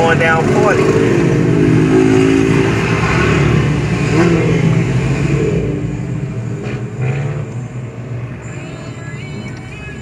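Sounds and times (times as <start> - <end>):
motorcycle engines revving: 0.0 - 10.0
road rumble: 0.0 - 10.0.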